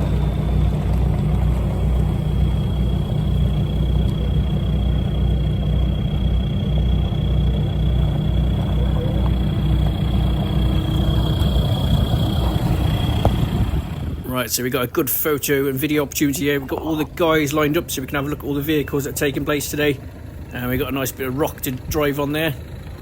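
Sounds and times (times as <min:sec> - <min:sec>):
high drivetrain whine: 0:00.0 - 0:23.0
vehicle engine droning: 0:00.0 - 0:23.0.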